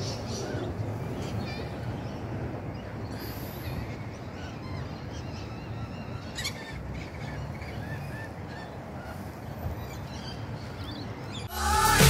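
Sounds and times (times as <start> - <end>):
low background noise: 0.0 - 11.5
birds calling: 0.0 - 11.6.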